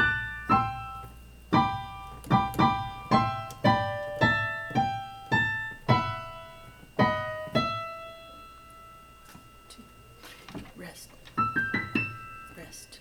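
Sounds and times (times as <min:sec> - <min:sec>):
high piano notes: 0:00.0 - 0:13.0.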